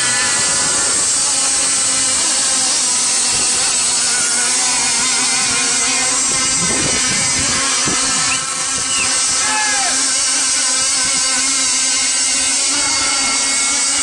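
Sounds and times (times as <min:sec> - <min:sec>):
high-pitched buzzing model boat engines: 0:00.0 - 0:14.0.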